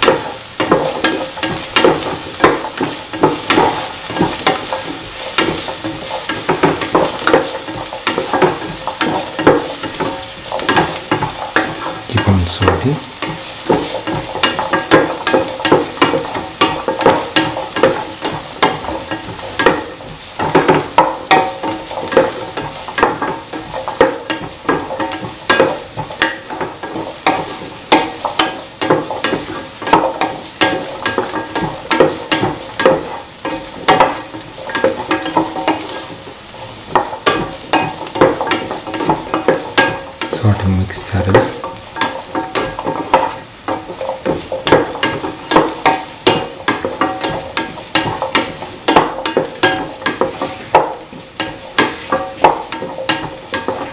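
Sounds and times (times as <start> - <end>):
onions sizzling in hot oil: 0.0 - 12.2, 12.8 - 40.3, 41.3 - 53.9.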